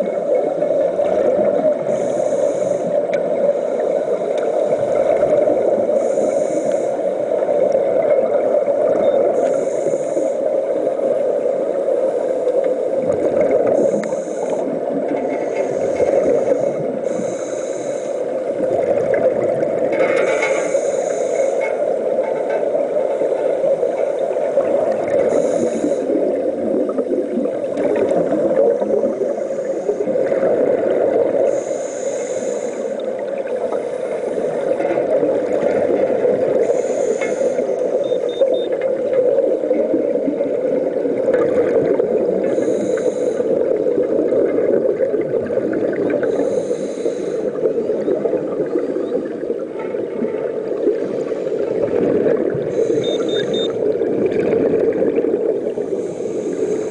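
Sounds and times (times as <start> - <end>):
muffled underwater rush: 0.0 - 56.9.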